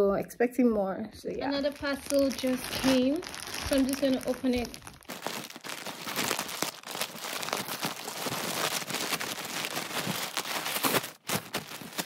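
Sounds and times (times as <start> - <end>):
packaging crinkling and rustling: 1.4 - 12.0.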